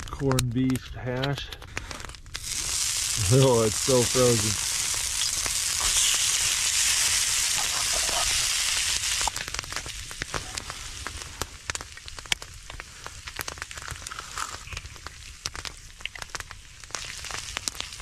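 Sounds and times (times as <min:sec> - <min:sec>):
pops and crackles: 0:00.0 - 0:18.0
food sizzling on a skillet: 0:02.2 - 0:18.0.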